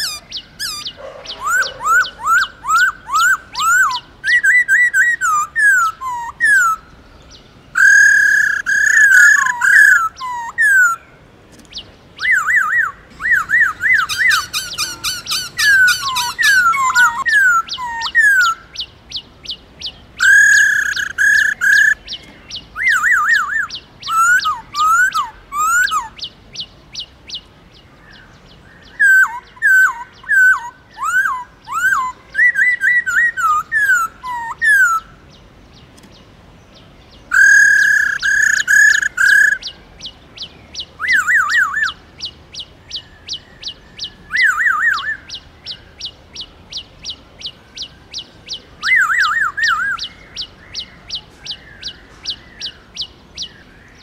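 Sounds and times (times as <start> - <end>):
bird singing whistled phrases: 0.0 - 6.8, 7.8 - 11.0, 12.2 - 18.9, 20.2 - 26.3, 28.8 - 35.1, 37.3 - 39.8, 40.9 - 42.3, 42.9 - 53.6.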